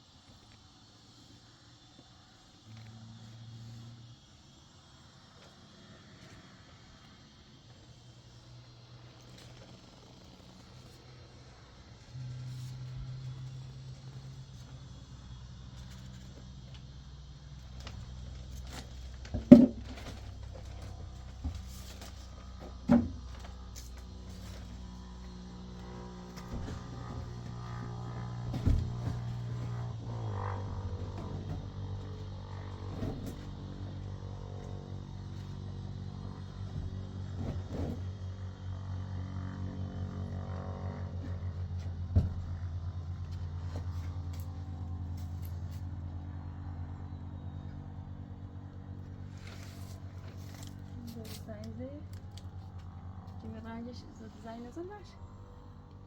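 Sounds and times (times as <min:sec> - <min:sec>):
low steady hum: 0:07.2 - 0:56.0.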